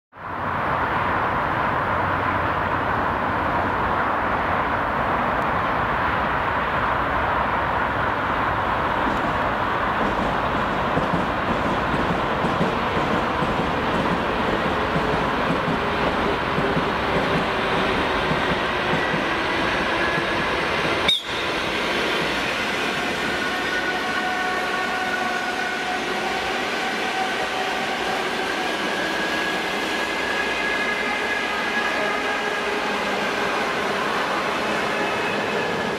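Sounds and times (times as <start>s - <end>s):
urban background noise: 0.1s - 35.9s
train rumble and hiss: 0.2s - 35.9s.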